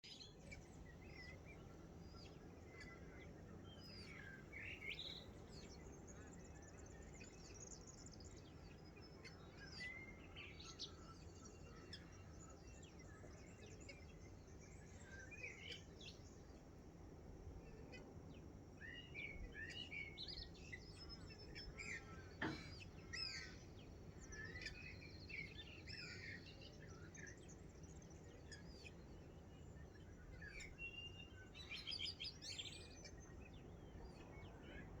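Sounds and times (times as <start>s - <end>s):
low background noise: 0.0s - 35.0s.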